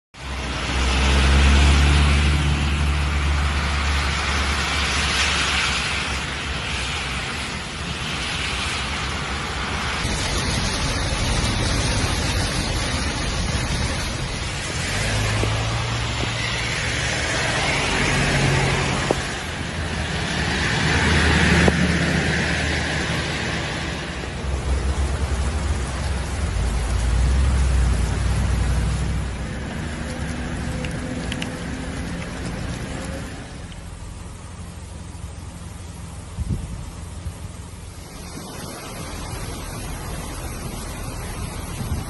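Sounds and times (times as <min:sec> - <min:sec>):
heavy rain: 0:00.2 - 0:42.0
low engine rumble: 0:00.2 - 0:42.0
tyres hissing through water: 0:00.2 - 0:42.0.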